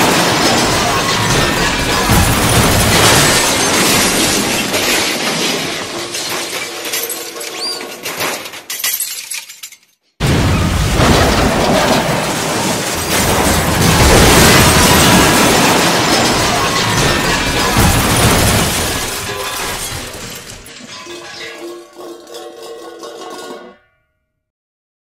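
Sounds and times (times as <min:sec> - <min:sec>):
glass shattering crash: 0:00.0 - 0:23.8.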